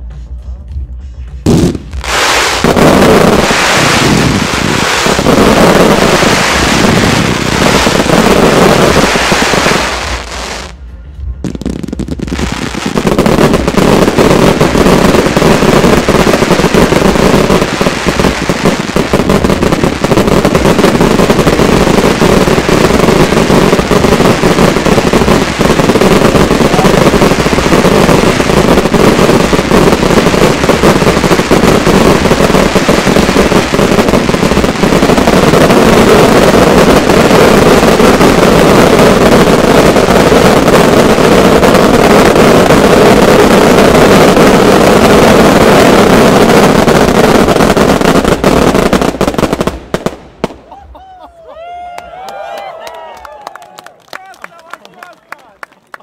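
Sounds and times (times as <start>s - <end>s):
fireworks bursts and crackle: 0.0s - 56.0s.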